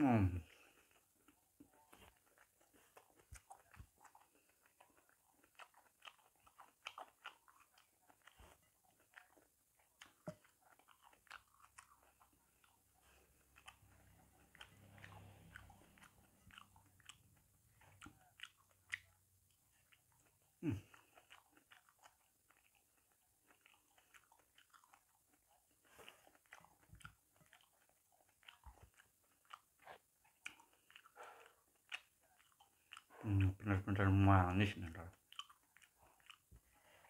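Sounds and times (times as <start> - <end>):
chewing and wet mouth sounds: 0.0 - 37.0.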